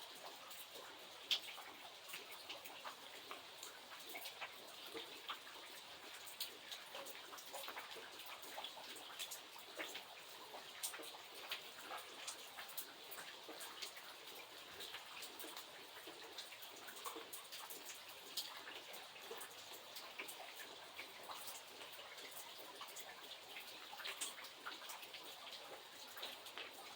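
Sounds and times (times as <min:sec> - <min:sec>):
rain: 0:00.0 - 0:26.9
raindrops ticking: 0:00.2 - 0:26.9.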